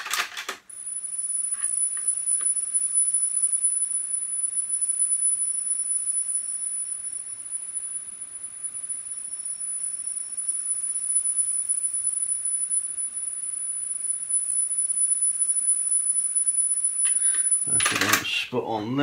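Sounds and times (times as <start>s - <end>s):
high-pitched test tone: 0.8s - 19.0s.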